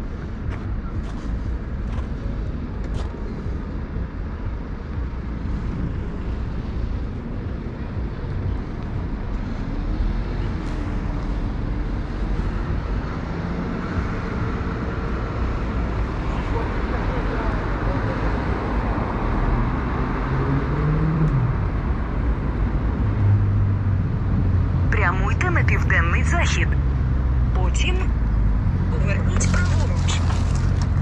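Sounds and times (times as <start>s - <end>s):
road rumble: 0.0s - 31.0s
wind: 0.0s - 31.0s.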